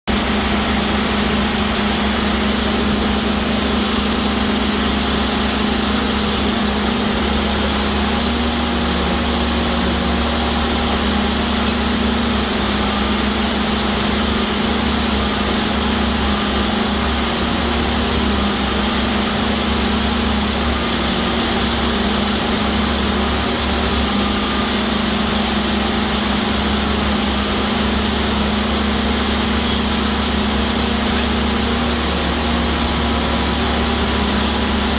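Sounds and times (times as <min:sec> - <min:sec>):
hydraulic drill drone: 0:00.1 - 0:34.9.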